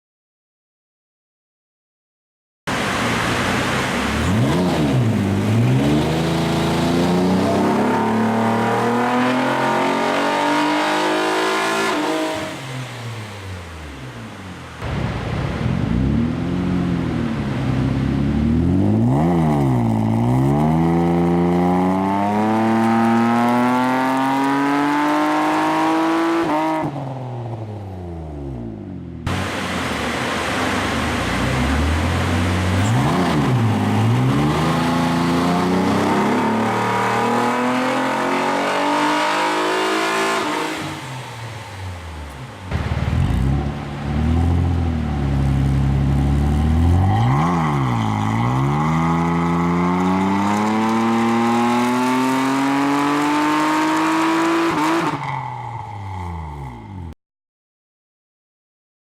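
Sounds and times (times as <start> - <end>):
car engine revving: 2.8 - 27.1, 28.5 - 55.2.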